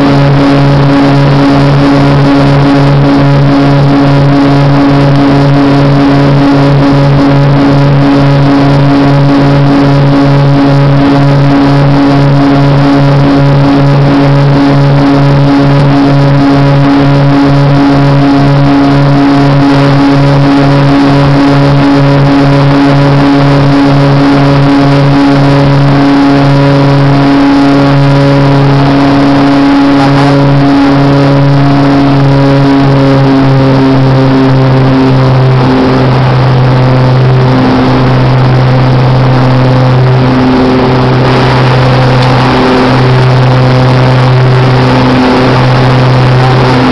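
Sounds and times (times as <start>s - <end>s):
propeller plane engine droning: 0.0s - 46.9s.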